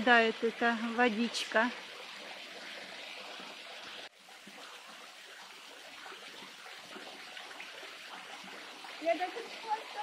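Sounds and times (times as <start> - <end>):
waterfall splashing hiss: 0.0 - 10.0.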